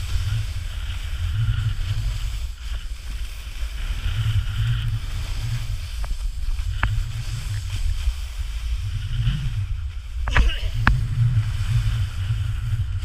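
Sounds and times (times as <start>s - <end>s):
snowboard scraping over snow: 0.0s - 13.0s
wind buffeting microphone: 0.0s - 13.0s.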